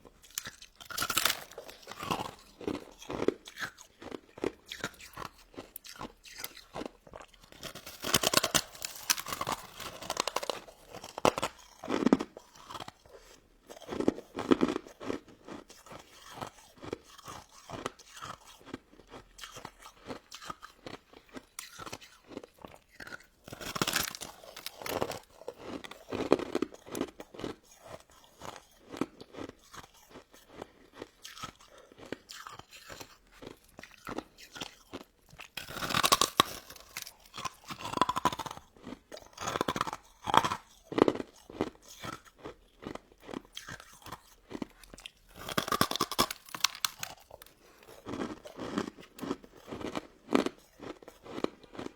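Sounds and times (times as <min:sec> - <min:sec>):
chewing and crunching ice dessert: 0:00.0 - 0:51.9.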